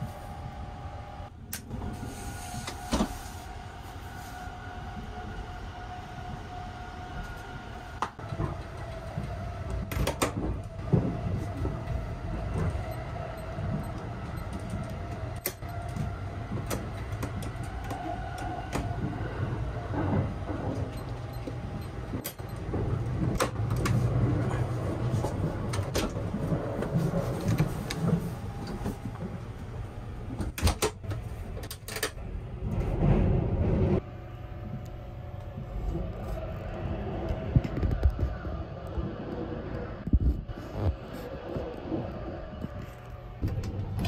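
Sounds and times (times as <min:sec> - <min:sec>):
train carriage rumble and hum: 0:00.0 - 0:44.0.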